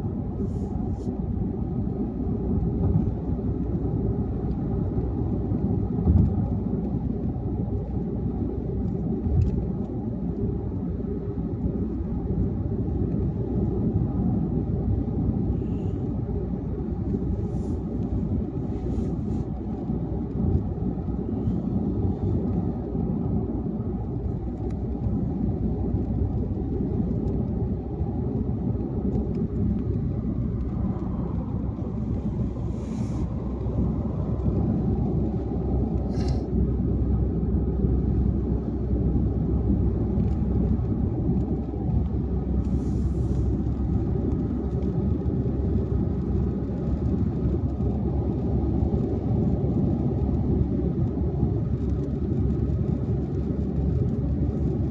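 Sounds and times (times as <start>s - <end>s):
car road and tyre rumble: 0.0s - 54.9s.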